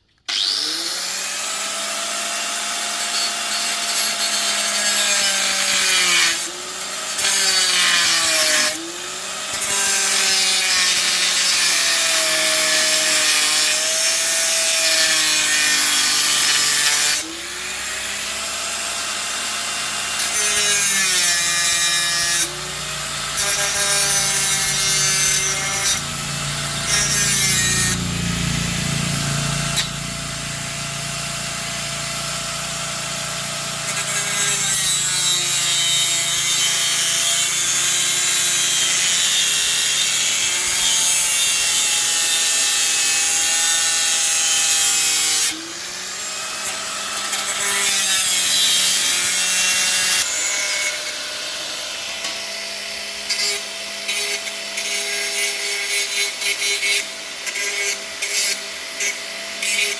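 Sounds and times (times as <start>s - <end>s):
power tool hissing: 0.3s - 48.4s.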